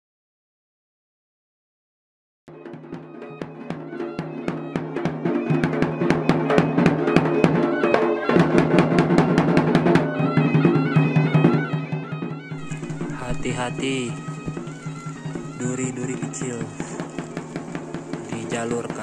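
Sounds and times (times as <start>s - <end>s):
drum-led music: 2.5s - 19.0s.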